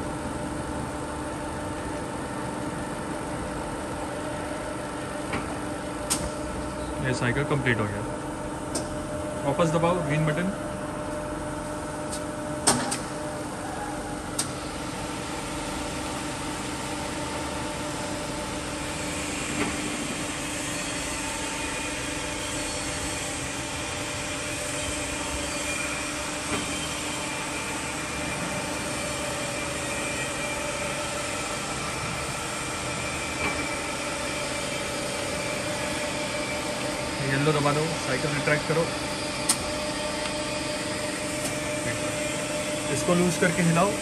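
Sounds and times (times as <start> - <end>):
grinder machine hum with whine: 0.0 - 44.0.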